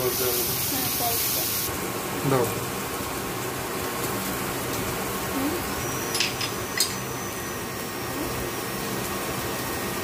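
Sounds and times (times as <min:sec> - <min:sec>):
onions sizzling in a pan: 0:00.0 - 0:10.0.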